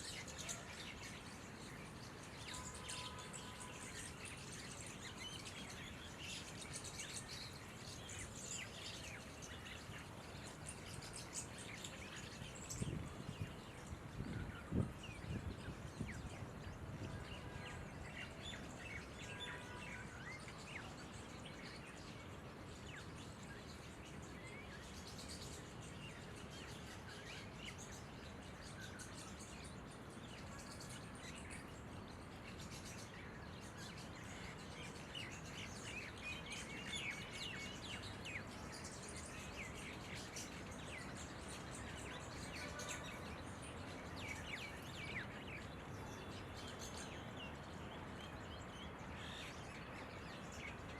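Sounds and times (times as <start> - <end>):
birds chirping and whistling: 0.0 - 22.1, 22.8 - 50.9.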